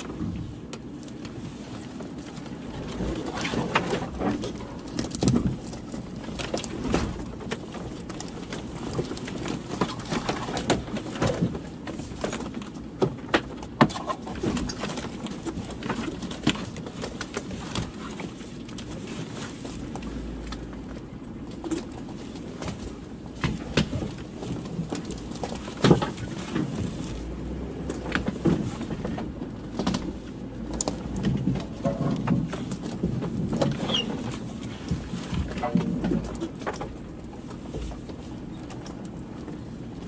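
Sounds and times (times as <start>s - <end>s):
vehicle engine rumble: 0.0s - 40.0s.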